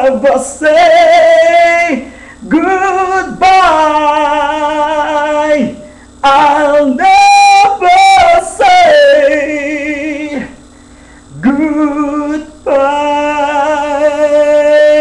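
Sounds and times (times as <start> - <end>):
man singing a cappella: 0.0 - 10.6, 11.3 - 15.0.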